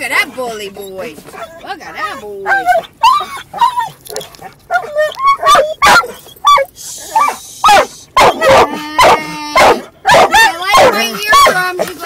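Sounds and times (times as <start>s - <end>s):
dog barking and yipping: 0.2s - 12.0s.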